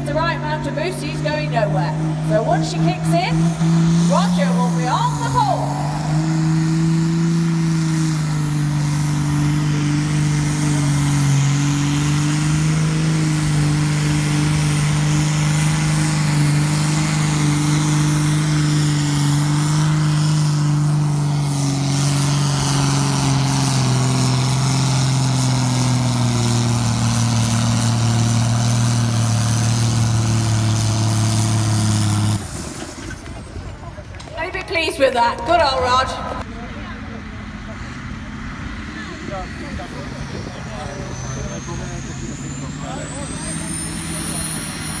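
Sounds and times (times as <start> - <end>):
diesel tractor engine at full load: 0.0 - 45.0.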